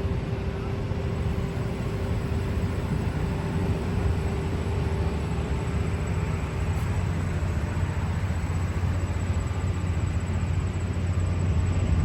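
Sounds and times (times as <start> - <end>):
faint constant hum: 0.0 - 12.0
traffic rumble: 0.0 - 12.0.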